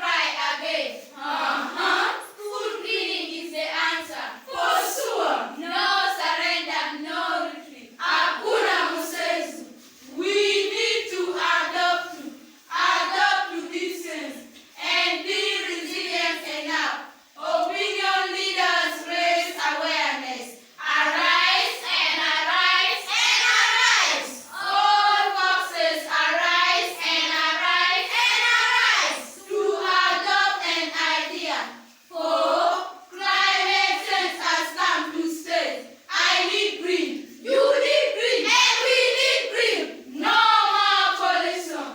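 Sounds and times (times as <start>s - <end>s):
children singing in unison: 0.0s - 41.9s.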